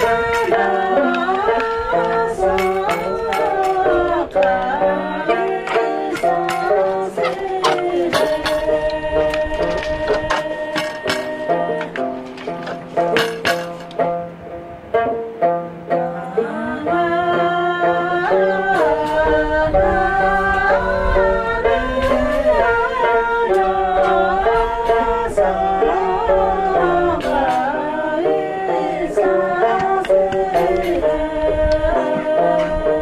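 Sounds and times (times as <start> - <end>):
person singing: 0.0 - 12.5, 15.8 - 33.0
plucked string instrument: 0.0 - 33.0.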